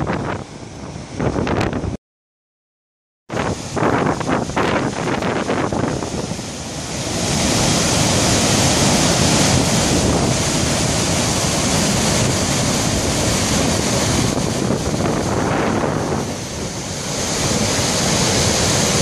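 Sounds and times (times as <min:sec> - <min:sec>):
waterfall rushing: 0:03.4 - 0:19.0.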